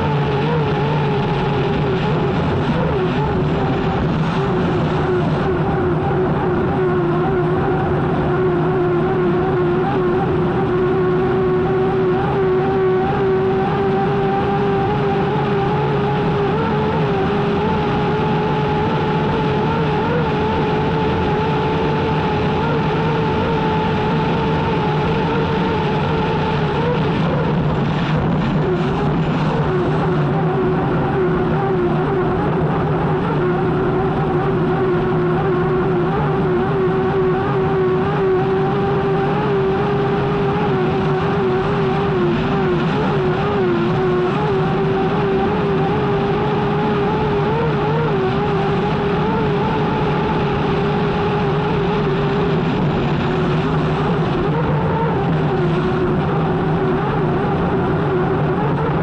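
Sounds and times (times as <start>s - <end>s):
turbine engine running: 0.0s - 59.0s.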